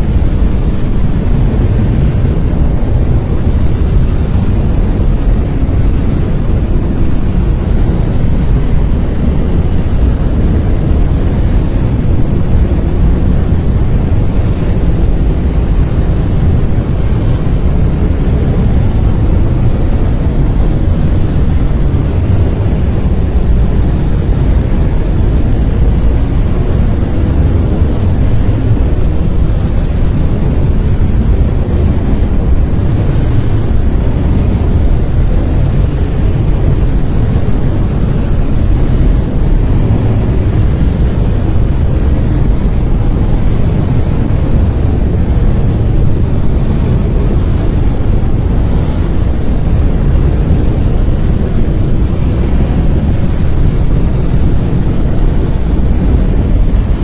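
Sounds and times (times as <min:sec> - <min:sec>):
deep rumbling hiss: 0:00.0 - 0:57.0.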